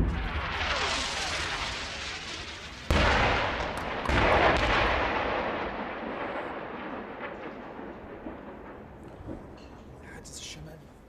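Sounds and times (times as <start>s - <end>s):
artillery explosion rumbling: 0.0s - 10.0s.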